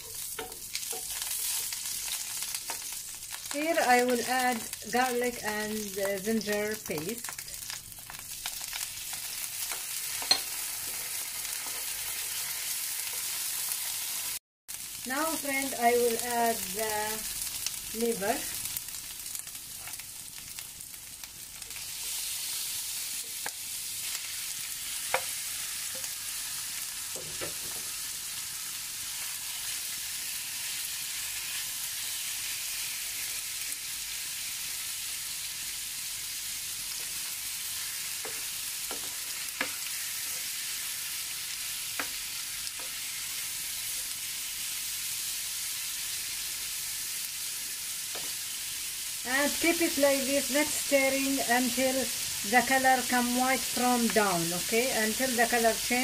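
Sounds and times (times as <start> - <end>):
liver sizzling in frying pan: 0.0 - 56.0.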